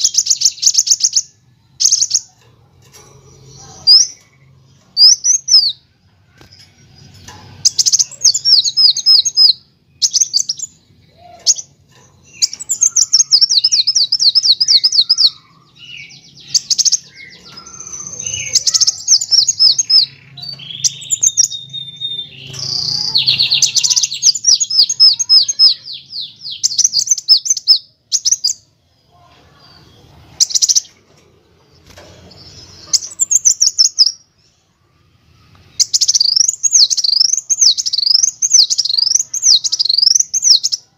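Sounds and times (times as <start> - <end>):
sunbird singing trills: 0.0 - 2.3, 3.3 - 5.9, 6.6 - 30.9, 32.3 - 40.9.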